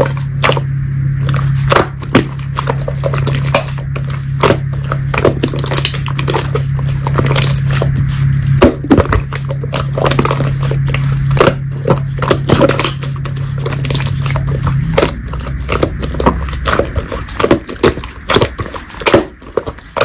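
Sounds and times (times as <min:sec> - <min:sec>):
crunching and chewing food: 0:00.0 - 0:20.0
steady low hum: 0:00.0 - 0:20.0.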